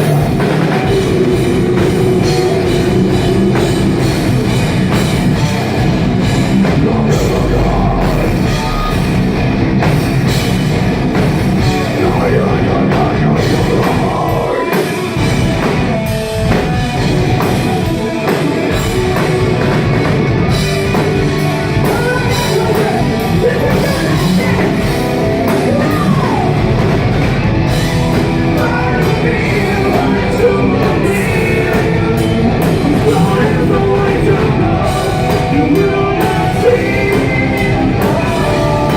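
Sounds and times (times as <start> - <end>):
metal band playing live: 0.0 - 38.9.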